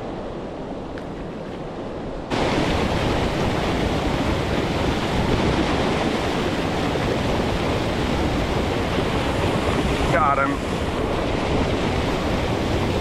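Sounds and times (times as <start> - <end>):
water rushing over waterfalls: 2.3 - 13.0.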